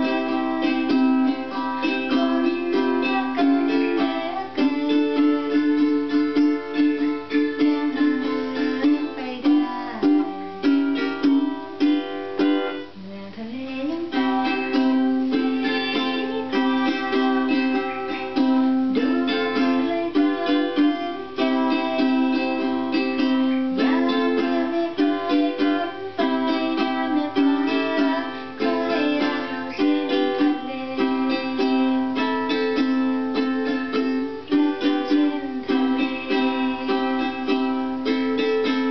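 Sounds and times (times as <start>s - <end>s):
ukulele playing: 0.0s - 38.9s.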